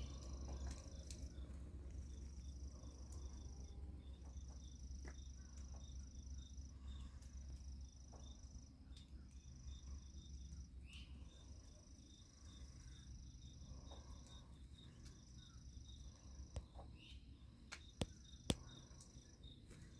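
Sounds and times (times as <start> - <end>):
insect chirping steadily: 0.0 - 19.9.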